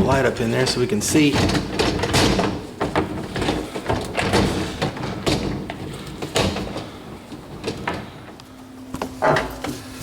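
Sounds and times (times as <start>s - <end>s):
dishwasher parts knocking and rattling: 0.0s - 8.3s.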